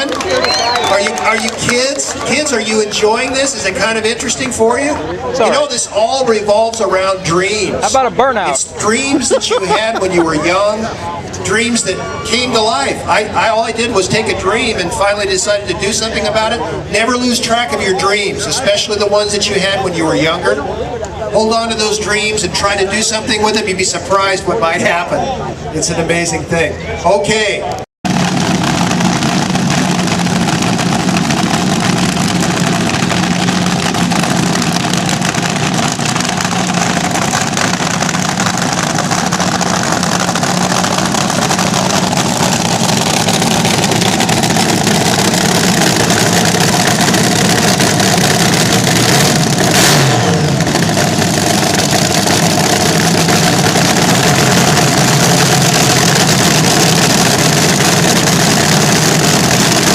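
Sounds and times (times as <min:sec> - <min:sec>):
drag racer engine running loud: 0:00.0 - 0:25.7, 0:28.0 - 0:59.9.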